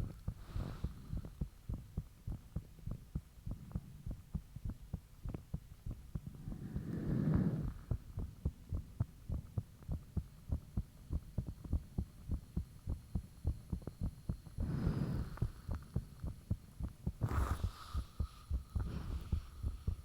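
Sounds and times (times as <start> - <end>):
heartbeat thumping: 0.0 - 6.3, 7.8 - 20.0.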